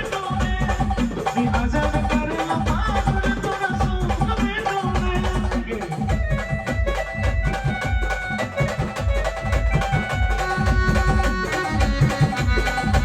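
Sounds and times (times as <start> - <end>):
fast dense drumming: 0.0 - 13.0.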